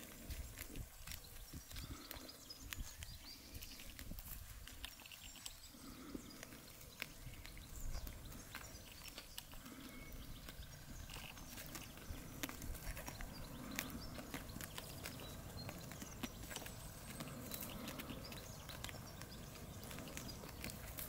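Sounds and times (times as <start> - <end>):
sheep tearing and chewing grass: 0.0 - 21.0.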